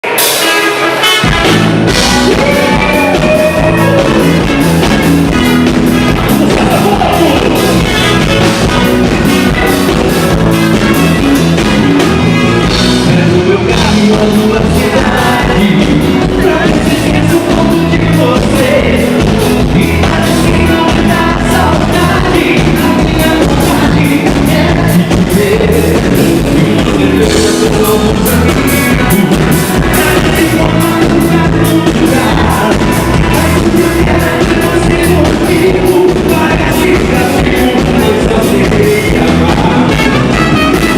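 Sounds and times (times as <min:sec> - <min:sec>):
live band dance music: 0:00.0 - 0:40.9
man singing: 0:00.0 - 0:40.9.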